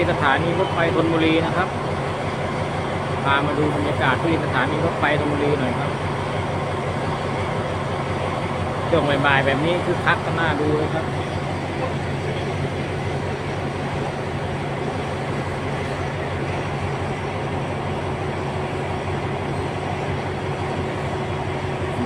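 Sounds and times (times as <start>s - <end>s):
diesel engine hum: 0.0s - 22.0s
train wheels on rails: 0.0s - 22.0s.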